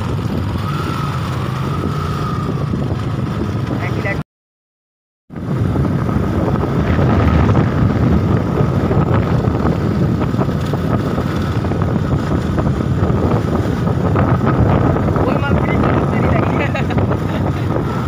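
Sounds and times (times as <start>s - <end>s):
motorcycle running: 0.0s - 4.2s, 5.3s - 18.0s
wind rushing over microphone: 0.0s - 4.2s, 5.3s - 18.0s.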